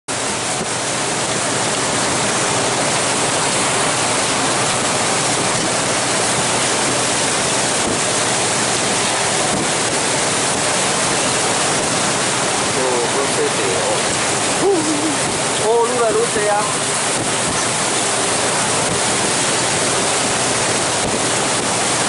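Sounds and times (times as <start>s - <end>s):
water rushing: 0.1s - 22.0s.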